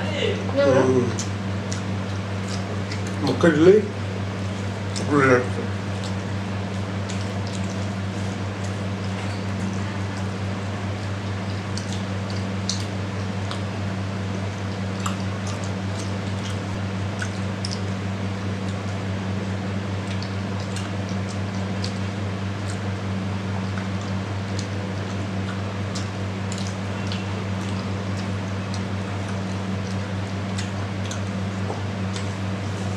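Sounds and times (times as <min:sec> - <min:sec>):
steady low hum: 0:00.0 - 0:32.9
wet chewing and mouth clicks: 0:01.1 - 0:32.9.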